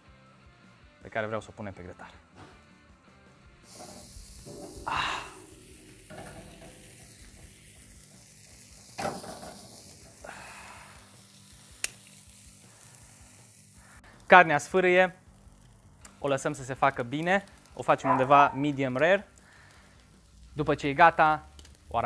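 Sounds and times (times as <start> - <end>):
steak sizzling on a grill: 3.6 - 22.0.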